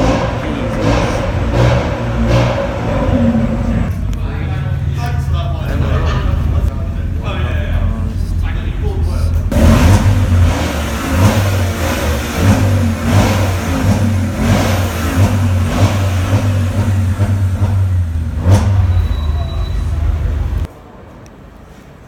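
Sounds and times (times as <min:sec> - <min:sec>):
car engine revving: 0:00.0 - 0:07.2, 0:09.3 - 0:20.7.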